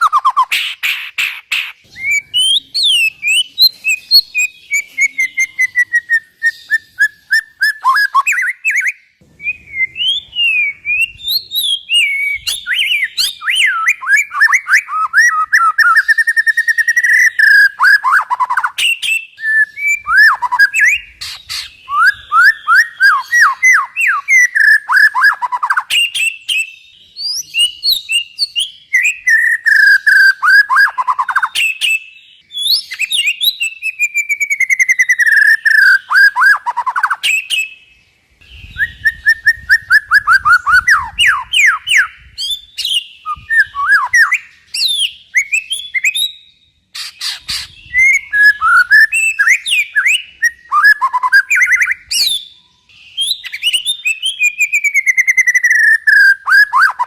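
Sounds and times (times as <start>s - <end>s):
songbird song: 0.0s - 57.0s.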